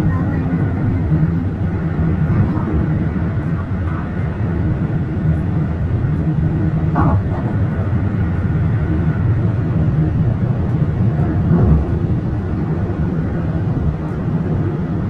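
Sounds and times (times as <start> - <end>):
car tyre and engine rumble: 0.0 - 15.0.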